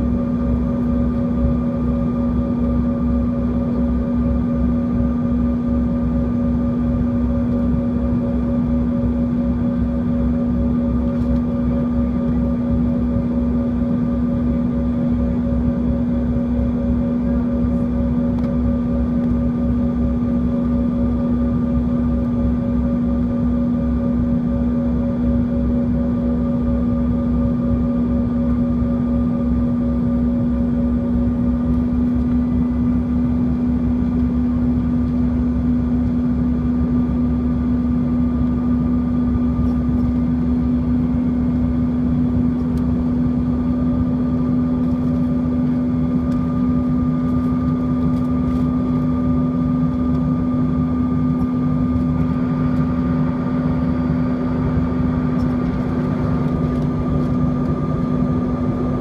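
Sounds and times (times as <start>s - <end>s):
jet engine cabin hum: 0.0s - 59.0s.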